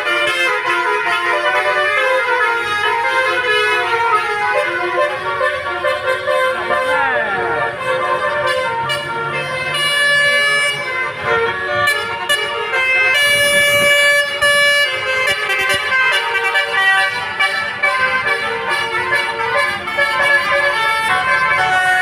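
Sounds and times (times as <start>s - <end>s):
multi-tone bus air horn tune: 0.0s - 22.0s.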